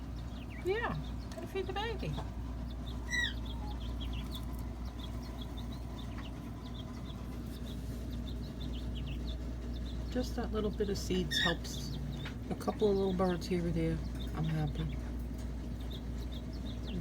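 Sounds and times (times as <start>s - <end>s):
baby bird calling: 0.0s - 17.0s
songbirds chirping: 0.0s - 17.0s
steady low hum: 0.0s - 17.0s.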